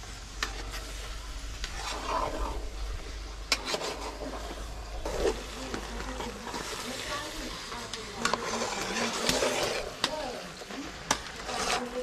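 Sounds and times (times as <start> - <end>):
low sizzle: 0.0 - 12.0
metal spoon stirring in pot: 0.3 - 12.0.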